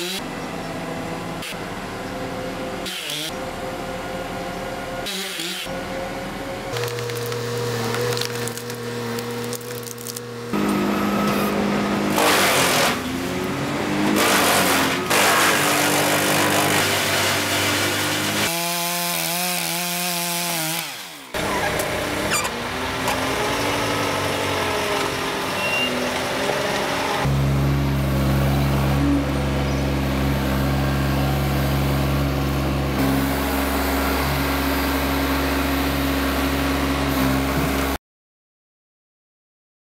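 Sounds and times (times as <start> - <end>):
diesel engines running: 0.0 - 18.5, 21.1 - 38.0
wood chipper: 0.0 - 38.0.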